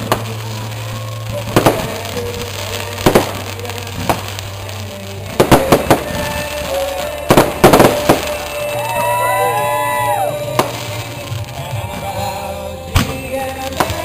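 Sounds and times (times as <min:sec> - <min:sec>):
fireworks popping and crackling: 0:00.0 - 0:14.0.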